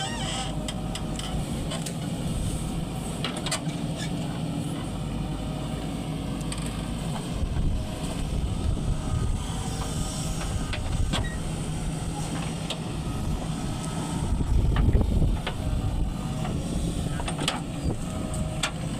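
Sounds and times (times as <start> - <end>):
backhoe diesel engine running: 0.0 - 18.9.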